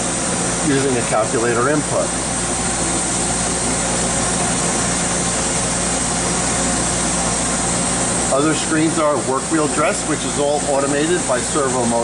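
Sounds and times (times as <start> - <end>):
industrial machinery hum: 0.0 - 12.0.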